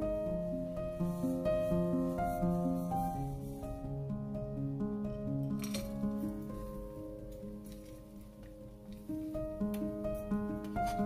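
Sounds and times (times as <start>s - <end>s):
gentle solo piano music: 0.0s - 11.0s.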